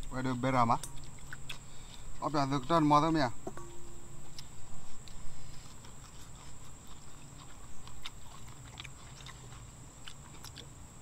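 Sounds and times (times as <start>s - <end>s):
people chewing: 0.0s - 3.1s, 4.2s - 11.0s.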